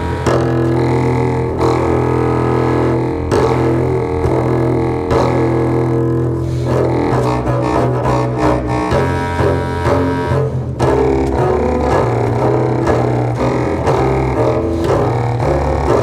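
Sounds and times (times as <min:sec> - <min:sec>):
bowed double bass: 0:00.0 - 0:16.0
clarinet reed drone: 0:00.0 - 0:16.0.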